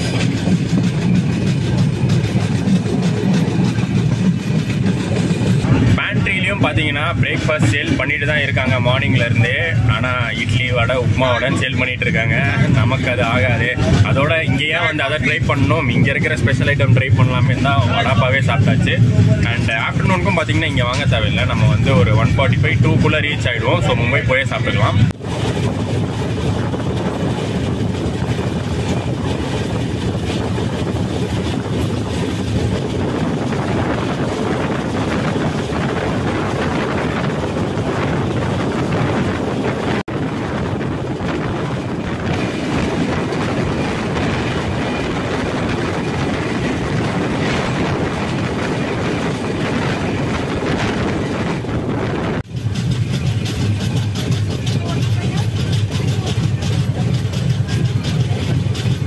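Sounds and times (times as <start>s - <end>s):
train wheels rumbling on rail: 0.0s - 59.0s
wind noise: 0.0s - 59.0s.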